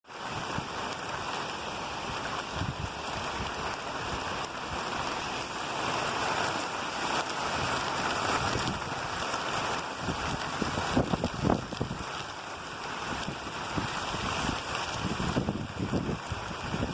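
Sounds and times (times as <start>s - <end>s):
rain falling: 0.0s - 16.9s
wind buffeting microphone: 2.0s - 16.9s.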